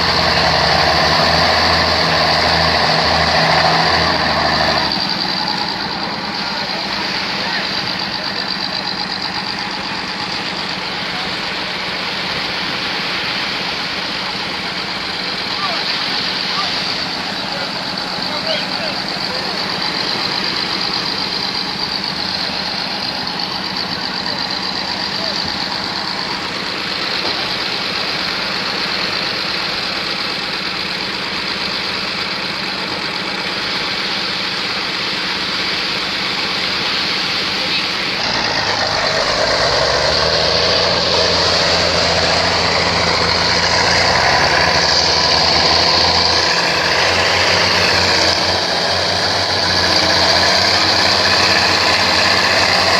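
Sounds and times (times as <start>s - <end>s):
boat engine running: 0.0s - 52.9s
rushing noise: 0.0s - 52.9s.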